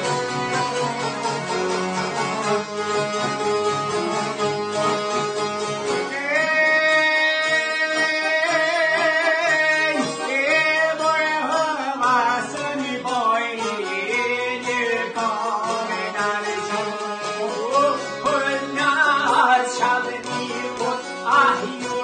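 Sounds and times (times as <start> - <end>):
accordion: 0.0 - 22.0
plucked lutes: 0.0 - 22.0
man singing with vibrato: 3.7 - 22.0.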